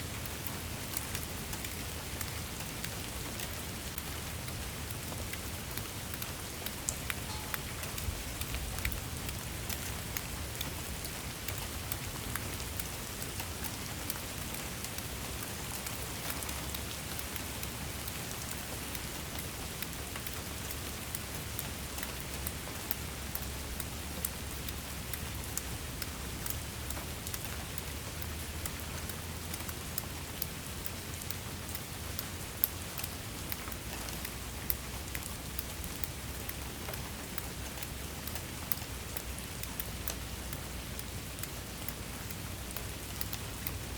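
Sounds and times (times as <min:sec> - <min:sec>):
rain pattering on a surface: 0:00.0 - 0:43.9.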